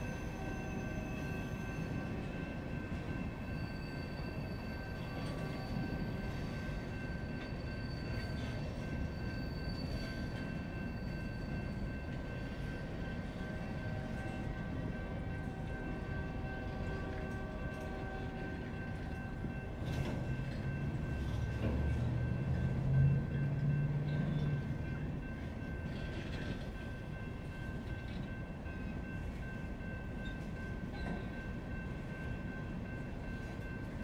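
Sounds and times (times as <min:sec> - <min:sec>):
railcars rumbling: 0:00.0 - 0:34.0.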